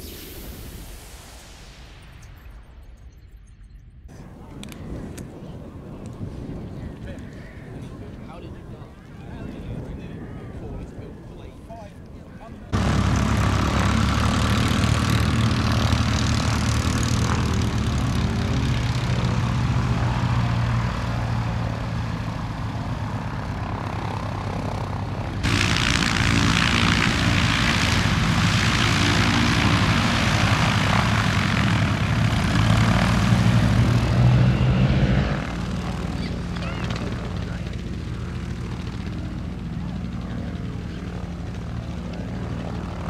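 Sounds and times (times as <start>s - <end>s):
light aircraft engine idling: 4.1s - 43.0s.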